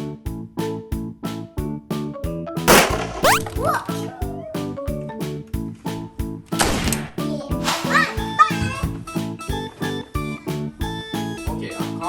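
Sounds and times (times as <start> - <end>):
background music with drums: 0.0 - 12.0.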